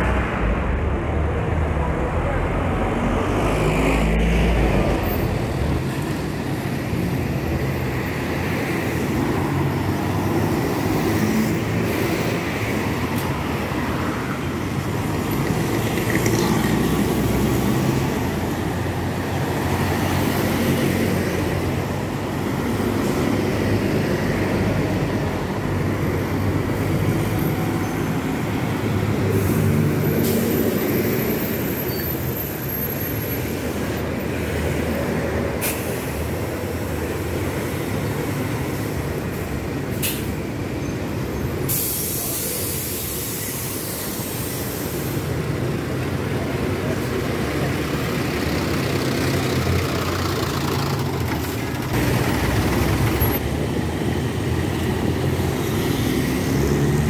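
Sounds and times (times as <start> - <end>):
buses passing: 0.0 - 57.0
traffic noise: 0.0 - 57.0.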